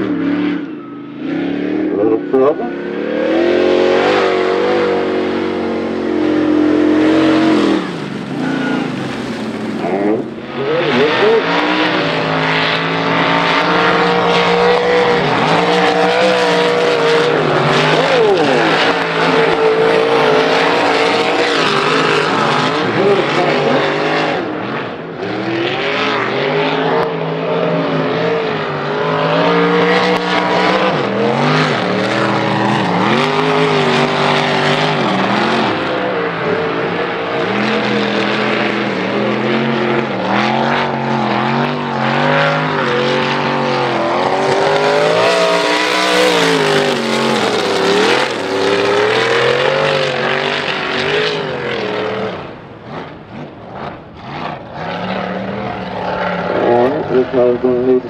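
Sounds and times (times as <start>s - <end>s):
truck engine revving hard: 0.0s - 58.0s.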